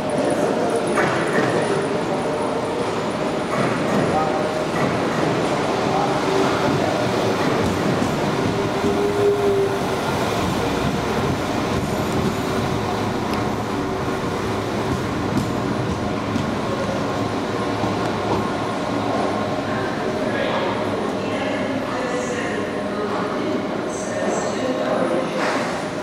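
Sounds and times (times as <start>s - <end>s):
diesel train passing: 2.0s - 23.0s.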